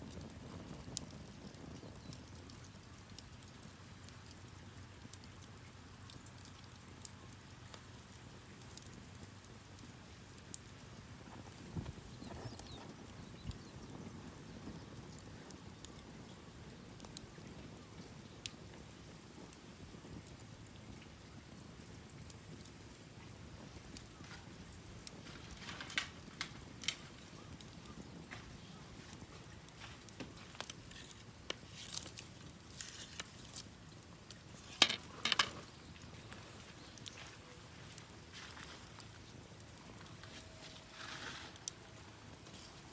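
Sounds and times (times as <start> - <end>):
campfire crackling: 0.0 - 42.9
fire pops and snaps: 0.0 - 42.9.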